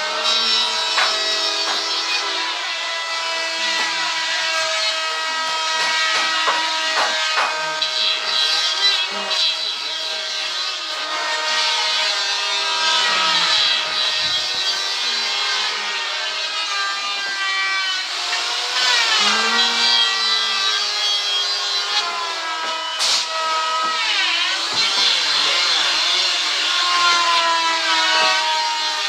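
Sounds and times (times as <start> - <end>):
tool scraping wood: 0.0 - 28.9.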